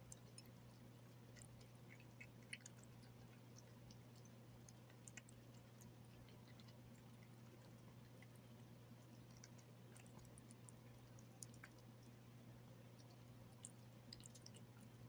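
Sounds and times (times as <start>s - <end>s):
cat chewing and licking: 0.0s - 15.0s
low steady hum: 0.0s - 15.0s.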